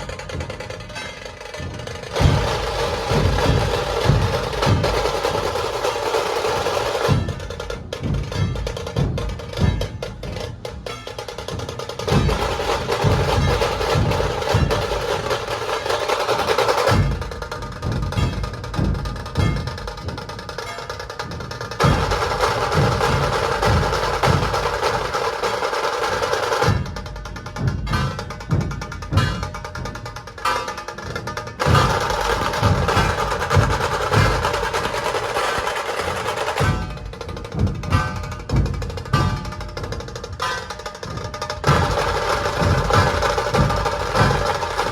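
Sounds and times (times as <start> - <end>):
deep drum beats: 0.0 - 44.9
fast rattling drum roll: 0.0 - 44.9.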